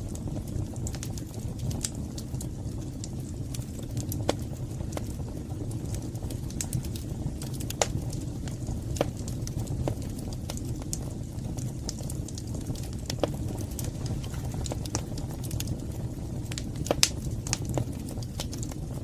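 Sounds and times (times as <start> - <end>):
low rumble of flame: 0.0 - 19.0
wood fire crackling and popping: 0.0 - 19.0.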